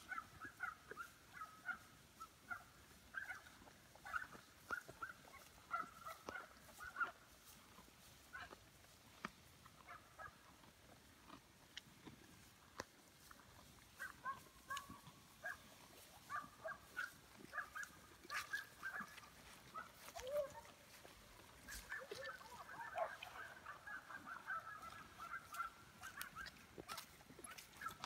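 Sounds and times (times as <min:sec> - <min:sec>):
cattle chewing hay: 0:02.9 - 0:28.0.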